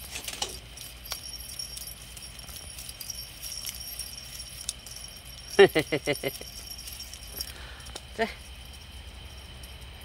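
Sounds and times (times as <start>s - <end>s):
small bell jingling: 0.0s - 10.0s
sharp ticks: 0.3s - 10.0s.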